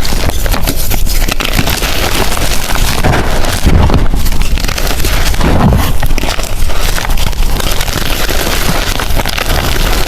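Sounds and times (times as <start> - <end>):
chalk crunching by hand: 0.0 - 10.0.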